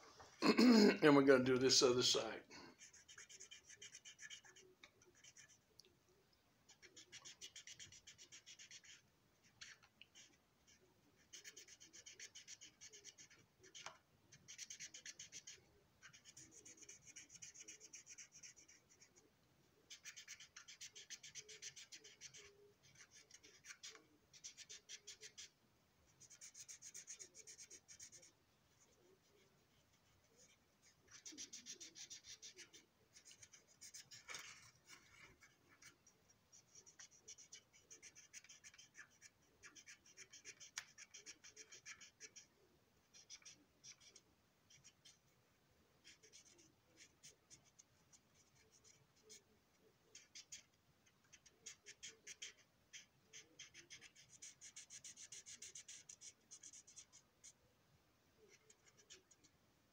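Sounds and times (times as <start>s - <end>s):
marker stroking on plastic: 2.7s - 5.8s, 6.7s - 45.3s, 46.0s - 57.6s, 58.4s - 59.6s.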